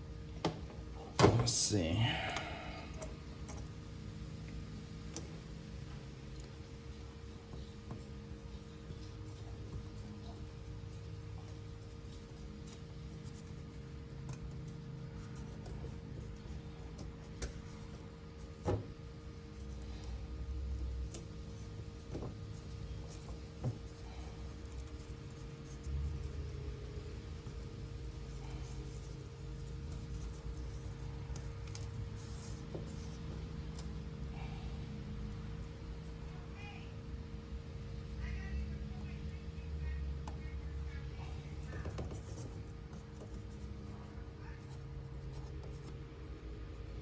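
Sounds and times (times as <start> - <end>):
steady low hum: 0.0 - 47.0
scraping and rubbing on frame: 4.7 - 36.4, 39.8 - 47.0.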